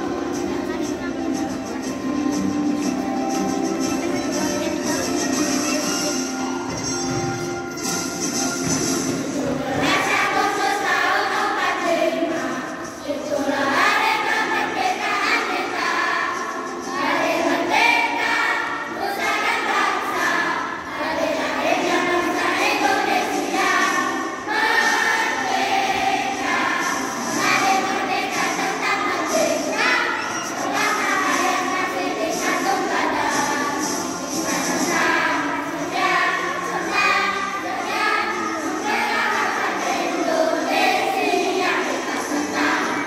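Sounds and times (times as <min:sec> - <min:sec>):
children's choir singing: 0:00.0 - 0:43.0.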